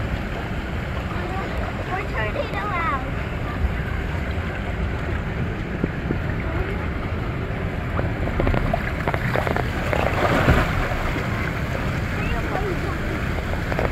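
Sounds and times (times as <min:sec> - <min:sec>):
water splashing: 0:00.0 - 0:13.9
wind rumbling on microphone: 0:00.0 - 0:13.9.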